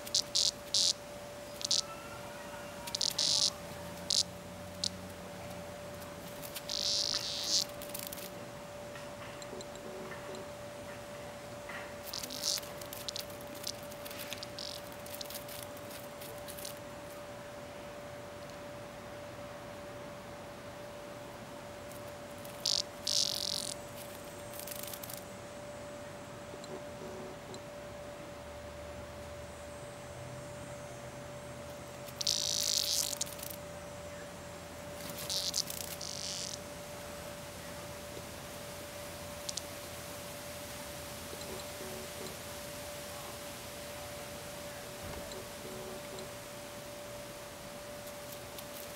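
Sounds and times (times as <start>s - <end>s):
cicada buzzing and clicking: 0.0s - 17.4s, 18.4s - 18.6s, 21.8s - 25.8s, 29.2s - 48.9s.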